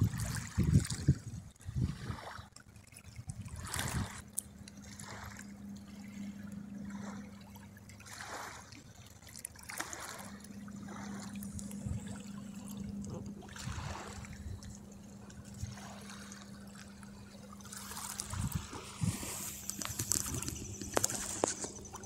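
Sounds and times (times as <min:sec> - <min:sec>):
small waves lapping on stones: 0:00.0 - 0:22.0
steady low hum: 0:00.0 - 0:22.0.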